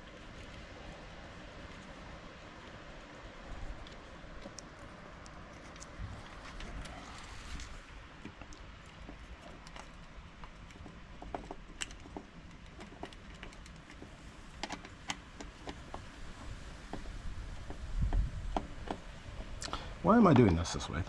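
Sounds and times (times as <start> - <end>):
light clicks and taps: 0.0 - 21.0.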